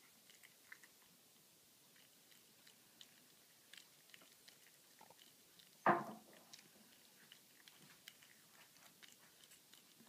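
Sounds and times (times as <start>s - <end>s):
cat chewing food: 0.0s - 10.0s.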